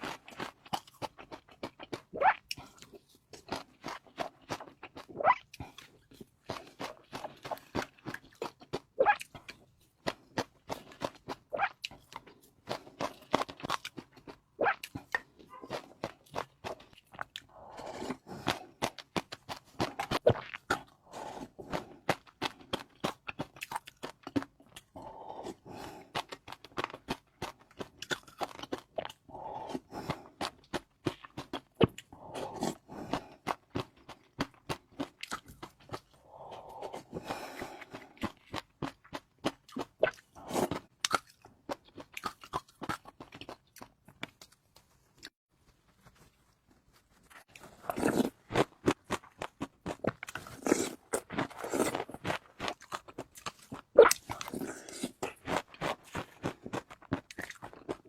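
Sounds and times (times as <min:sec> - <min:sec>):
person chewing crunchy food: 0:00.0 - 0:45.4, 0:46.0 - 0:58.0.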